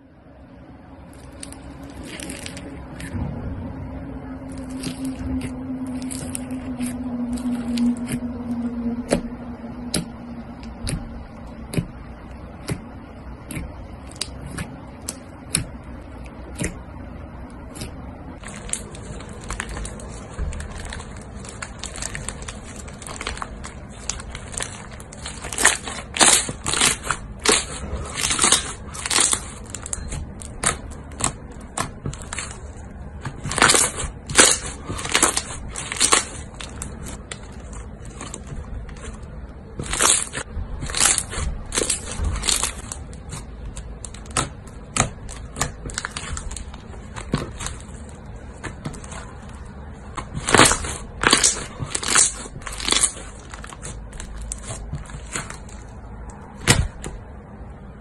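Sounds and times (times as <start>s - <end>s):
slime crackling and popping: 1.1s - 3.2s, 4.4s - 57.2s.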